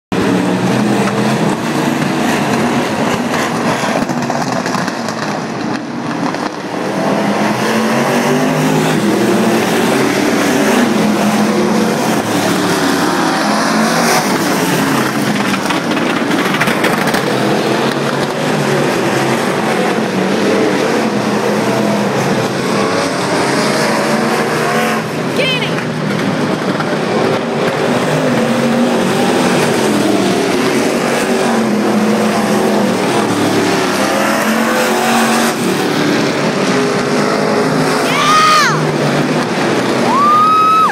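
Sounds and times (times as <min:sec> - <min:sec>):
race car engines passing: 0:00.2 - 0:40.9.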